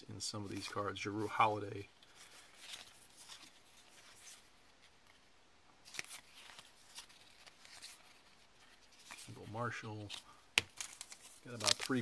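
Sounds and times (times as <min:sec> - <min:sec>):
cardboard cards rustling: 0:00.2 - 0:12.0.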